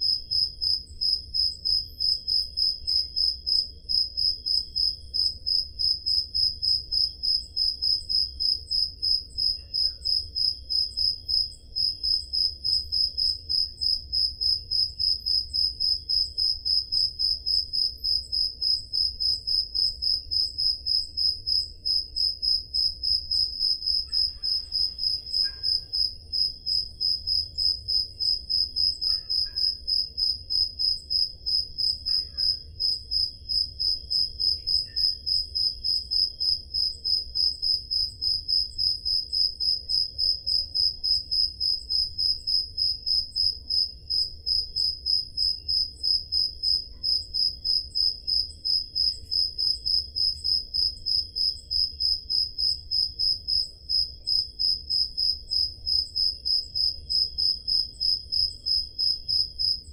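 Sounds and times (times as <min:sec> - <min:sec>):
cricket chirping: 0:00.0 - 0:59.9
faint cricket calls: 0:00.0 - 0:59.9.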